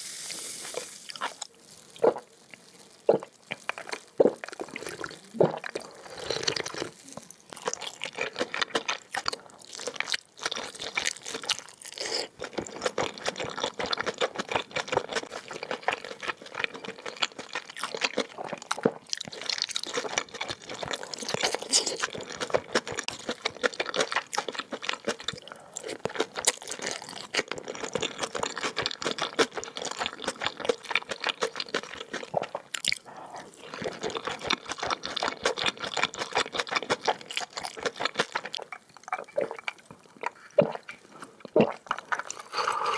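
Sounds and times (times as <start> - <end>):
person chewing dumplings: 1.1 - 42.9.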